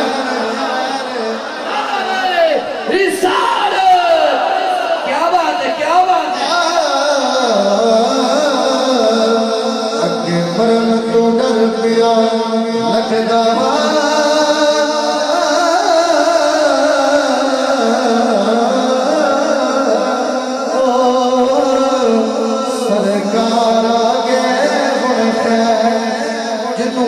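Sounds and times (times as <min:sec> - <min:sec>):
man singing into microphone: 0:00.0 - 0:27.0.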